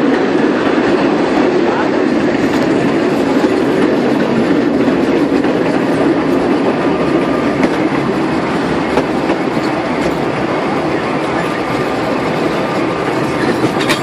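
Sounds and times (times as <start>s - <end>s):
tram wheels on rails: 0.0s - 14.0s.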